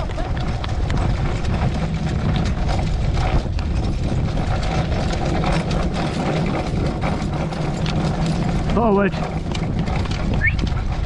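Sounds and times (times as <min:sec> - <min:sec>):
cart and harness rattling: 0:00.0 - 0:11.0
horse hoofbeats: 0:00.0 - 0:11.0
wind buffeting microphone: 0:00.0 - 0:11.0.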